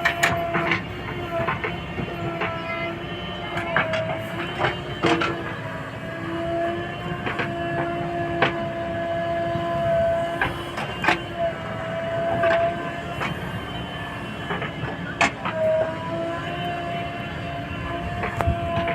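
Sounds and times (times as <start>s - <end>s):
backhoe engine whining: 0.0s - 18.9s.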